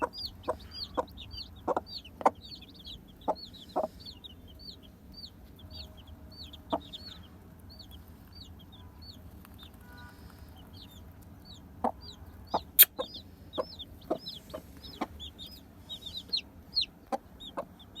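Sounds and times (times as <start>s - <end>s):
baby chicks peeping: 0.0s - 18.0s.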